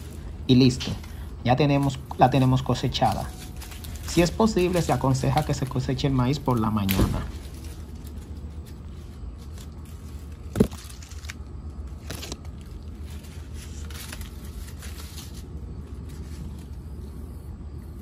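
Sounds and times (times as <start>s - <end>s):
dry corn leaves crackling: 0.0s - 17.2s
steady low rumble: 0.0s - 18.0s.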